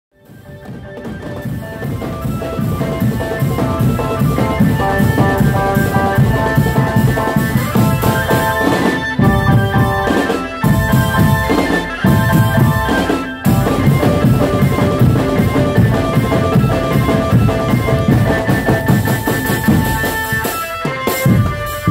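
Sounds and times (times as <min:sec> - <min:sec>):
drum band music: 0:00.1 - 0:21.9.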